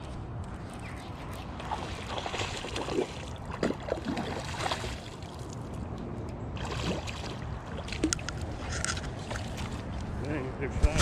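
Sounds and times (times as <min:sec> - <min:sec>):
water sloshing and splashing: 0:00.0 - 0:10.3.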